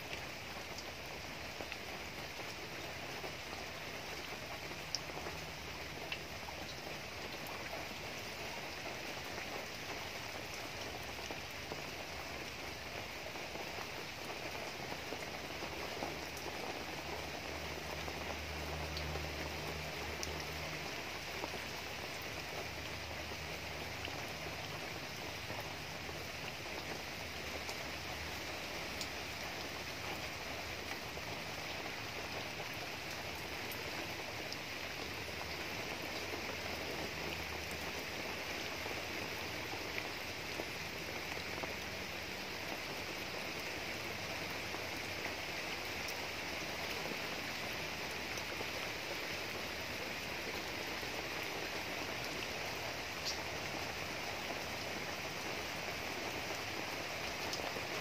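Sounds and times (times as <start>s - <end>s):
rain on trees and grass: 0.0s - 58.0s.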